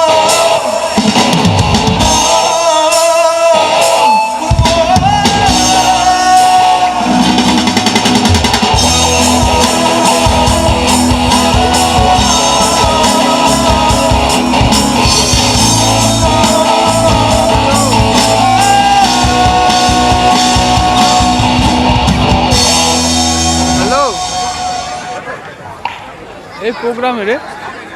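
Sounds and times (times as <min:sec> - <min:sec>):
drum kit beating: 0:00.0 - 0:25.2
guitar: 0:00.0 - 0:25.2
live band playing: 0:00.0 - 0:25.4
sliding melody line: 0:02.0 - 0:25.2.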